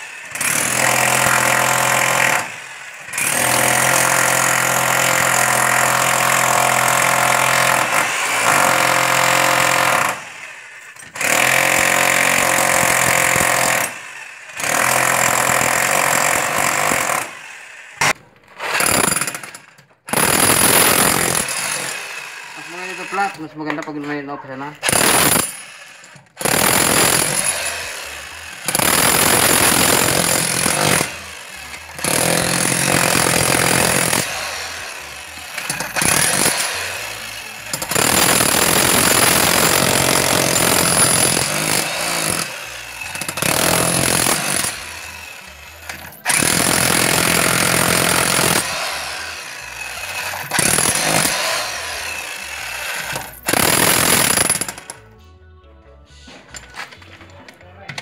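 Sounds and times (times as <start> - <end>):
electric chipping hammer on concrete: 0.0 - 55.0.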